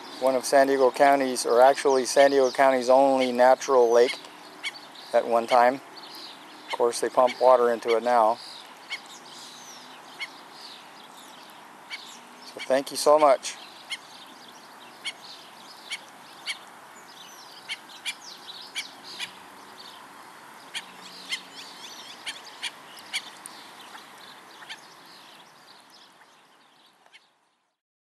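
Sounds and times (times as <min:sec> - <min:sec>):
outdoor hiss: 0:00.0 - 0:27.1
small birds chirping: 0:00.0 - 0:27.8.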